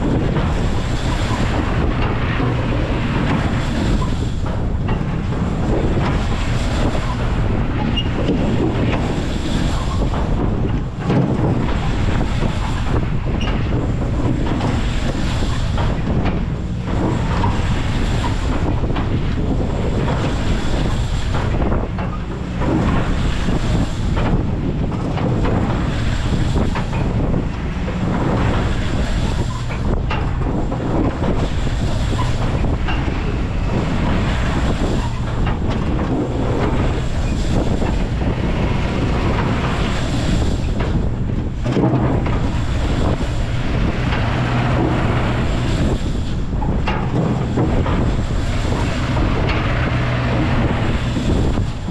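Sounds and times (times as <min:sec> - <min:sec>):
low mechanical rumble: 0:00.0 - 0:51.9
wind buffeting microphone: 0:00.0 - 0:51.9.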